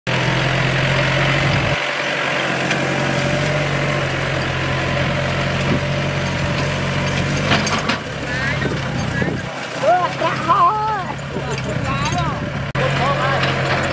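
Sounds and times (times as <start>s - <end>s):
diesel tractor engine under load: 0.1s - 13.9s.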